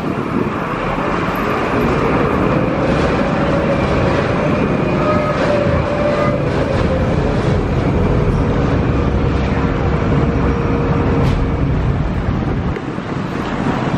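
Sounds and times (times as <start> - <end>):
boat diesel engine rumbling: 0.0 - 13.9.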